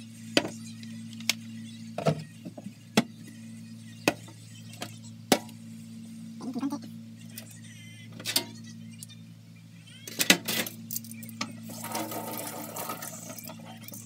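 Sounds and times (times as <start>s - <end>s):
cooktop humming: 0.0s - 14.0s.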